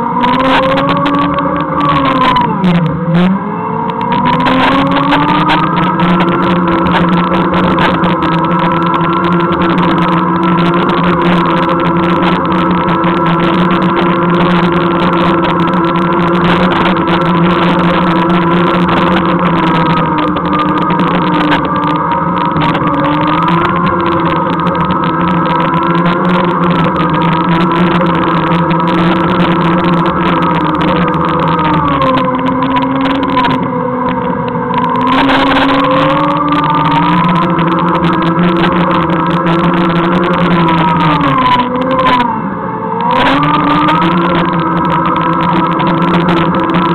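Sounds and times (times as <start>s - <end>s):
electric drive whining: 0.0s - 46.9s
wind and wheel rumble: 0.0s - 46.9s.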